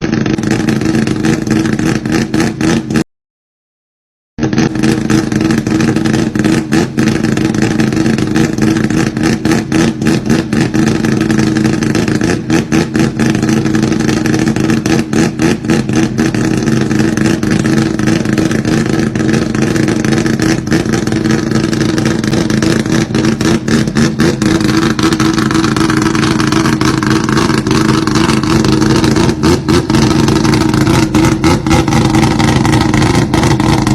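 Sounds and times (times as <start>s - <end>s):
rotary engine exhaust choppy pulse: 0.0s - 3.0s, 4.4s - 33.9s.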